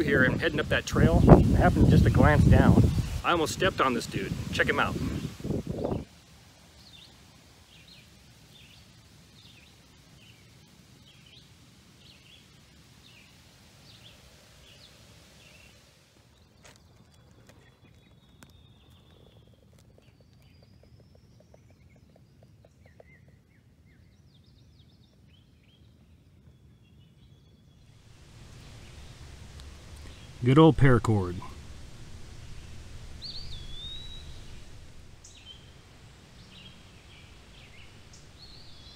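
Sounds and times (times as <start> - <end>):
faint birdsong chirps and whistles: 0.0 - 1.8, 5.0 - 38.9.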